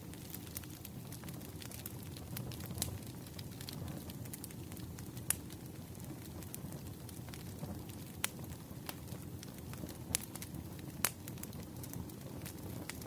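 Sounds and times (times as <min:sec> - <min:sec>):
fire popping and snapping: 0:00.0 - 0:13.0
wood fire crackling: 0:00.0 - 0:13.0.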